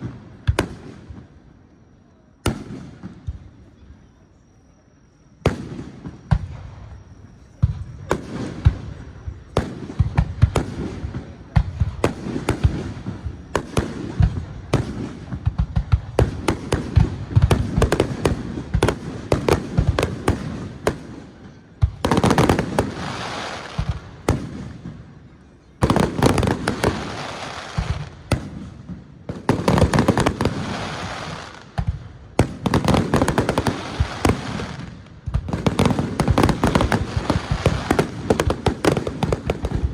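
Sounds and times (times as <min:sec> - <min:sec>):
fireworks booming and cracking: 0:00.0 - 0:01.5, 0:02.4 - 0:03.8, 0:05.4 - 0:39.9
fireworks crackling: 0:00.0 - 0:01.7, 0:05.4 - 0:39.9.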